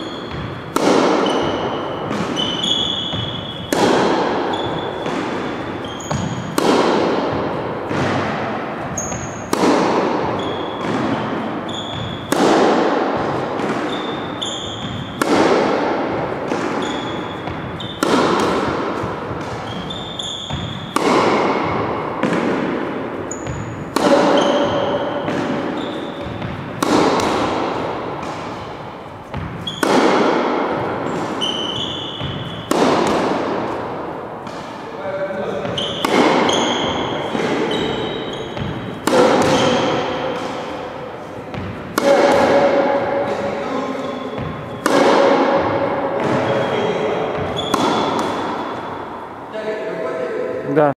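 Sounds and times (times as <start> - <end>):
sneaker squeaks on floor: 0.0 - 7.1, 7.8 - 22.6, 23.2 - 33.8, 34.4 - 49.2
ball bouncing: 0.0 - 34.8, 35.5 - 43.4, 44.3 - 49.1
racket hitting tennis ball: 0.0 - 49.5.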